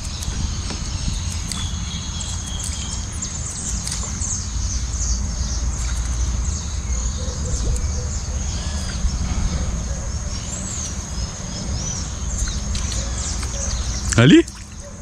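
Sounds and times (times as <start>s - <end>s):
low rumble: 0.0s - 14.2s
high insect drone: 0.0s - 14.9s
birds chirping: 0.0s - 15.0s.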